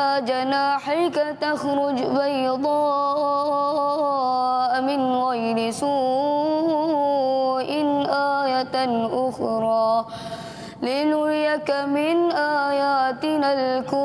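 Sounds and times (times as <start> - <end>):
boy chanting melodically: 0.0 - 14.0.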